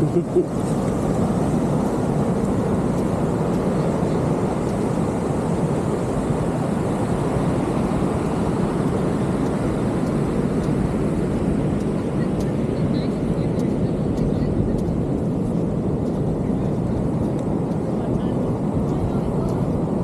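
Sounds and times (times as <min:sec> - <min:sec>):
ocean surf roaring: 0:00.0 - 0:20.0.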